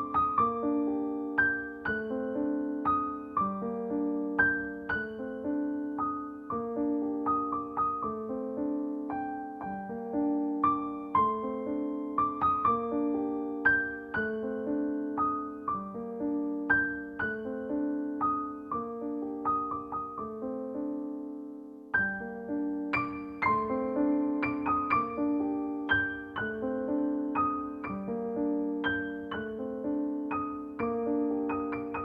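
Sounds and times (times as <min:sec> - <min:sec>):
solo piano piece: 0:00.0 - 0:32.0.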